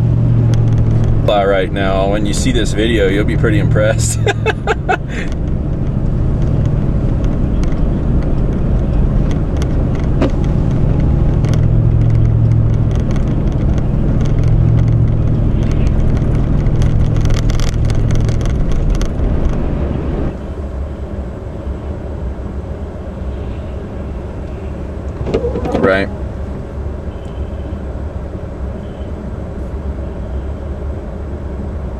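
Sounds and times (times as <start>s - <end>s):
engine and tyres rumbling: 0.0s - 31.9s.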